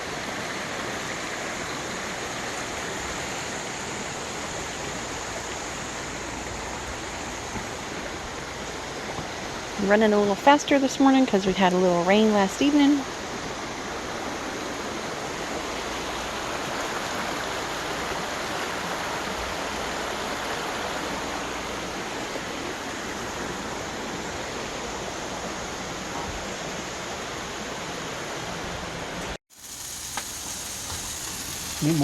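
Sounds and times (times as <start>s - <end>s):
mountain stream rushing: 0.0s - 32.0s.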